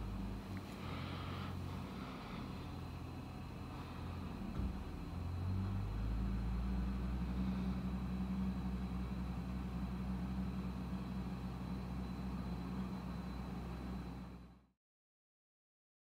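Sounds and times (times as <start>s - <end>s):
tractor engine hum: 0.0s - 14.6s.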